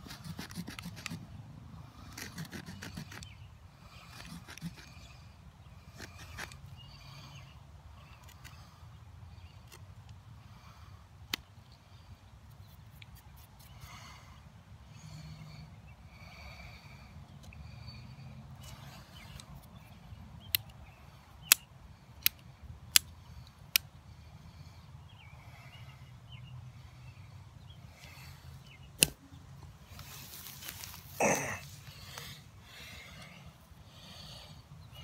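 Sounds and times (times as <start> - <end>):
faint outdoor background: 0.0 - 35.0.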